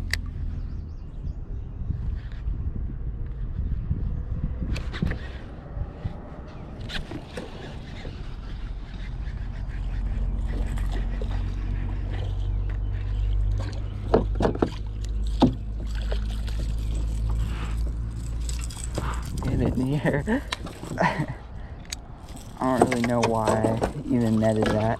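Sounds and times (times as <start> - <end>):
low rumble: 0.0 - 24.9.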